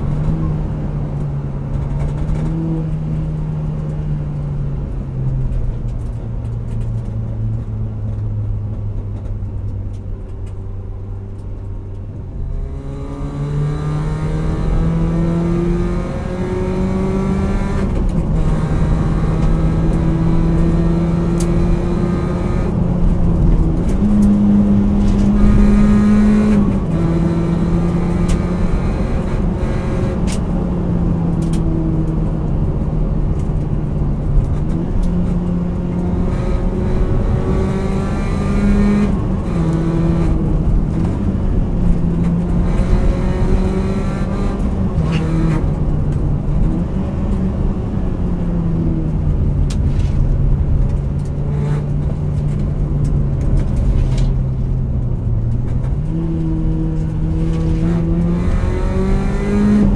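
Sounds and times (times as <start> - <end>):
car engine accelerating through gears: 0.0 - 59.9
road rumble: 0.0 - 59.9.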